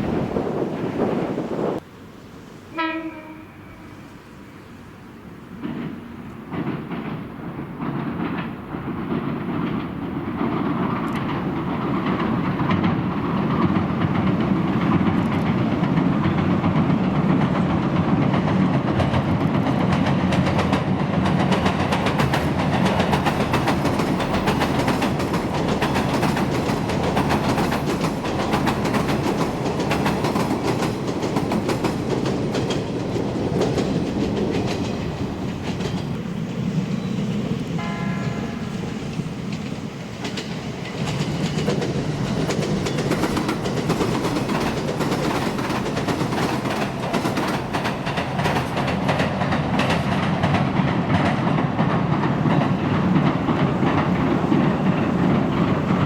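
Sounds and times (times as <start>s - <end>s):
train rumbling over bridge: 0.0s - 56.0s
wheels clattering over rail joints: 5.5s - 56.0s.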